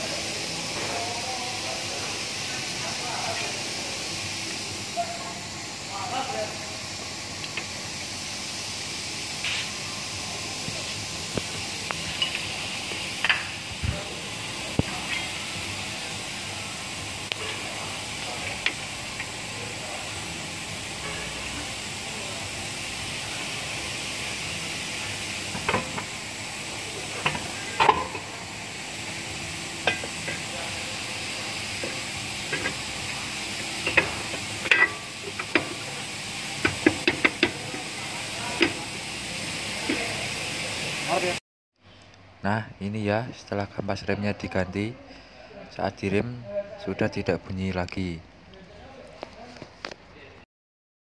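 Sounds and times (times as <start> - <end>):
steady workshop hiss: 0.0 - 41.4, 42.2 - 50.4.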